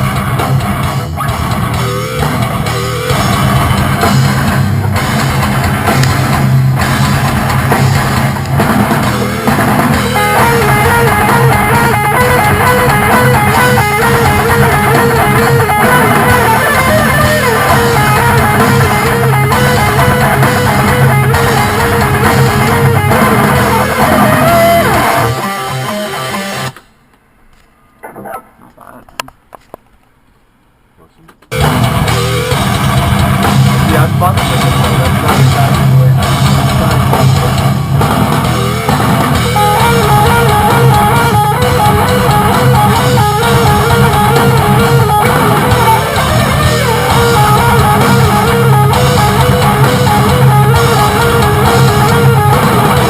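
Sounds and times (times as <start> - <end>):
lead guitar line: 0.0 - 26.8, 31.5 - 53.0
rock band playing: 0.0 - 26.8, 31.5 - 53.0.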